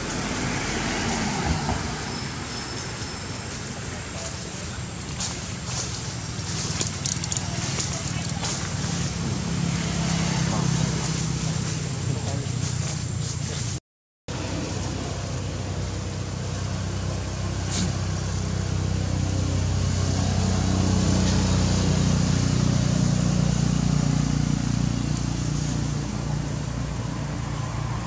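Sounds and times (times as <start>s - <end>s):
road noise: 0.0s - 28.0s
vehicle engine running: 2.1s - 28.0s.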